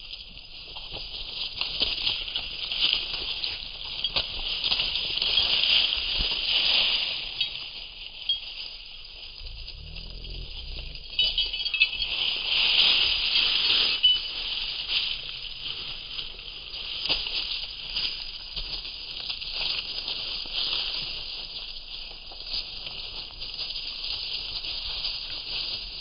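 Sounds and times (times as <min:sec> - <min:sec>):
animals rustling in dry grass: 0:00.0 - 0:26.0.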